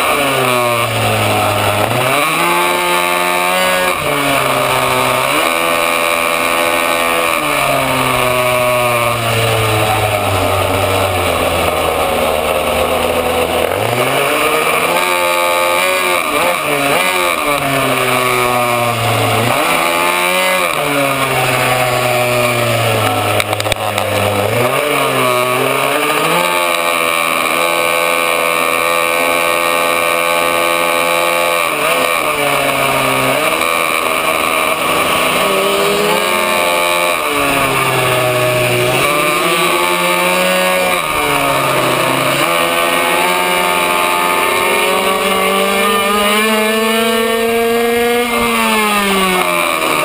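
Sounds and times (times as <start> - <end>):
two-stroke engine revving: 0.0 - 50.0.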